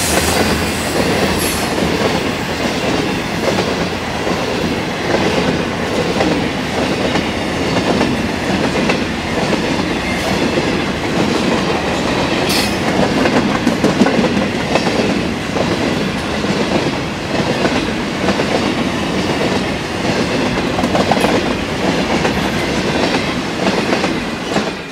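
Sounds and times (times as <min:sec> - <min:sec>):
clickety-clack over rail joints: 0:00.1 - 0:24.9.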